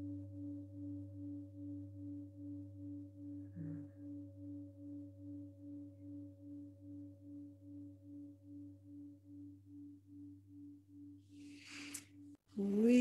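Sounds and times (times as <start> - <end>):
pulsing singing bowl tone: 0.0 - 13.0.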